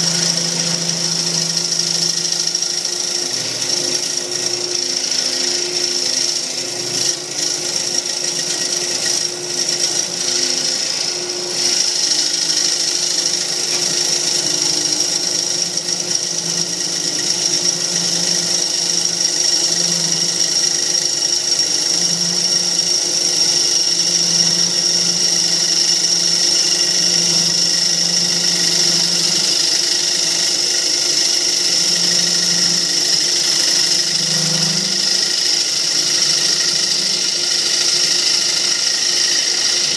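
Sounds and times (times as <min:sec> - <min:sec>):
wood lathe whining: 0:00.0 - 0:39.9.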